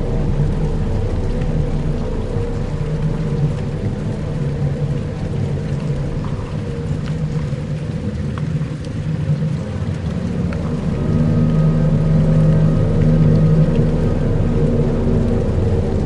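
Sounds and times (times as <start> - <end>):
dark ambient droning music: 0.0 - 16.0.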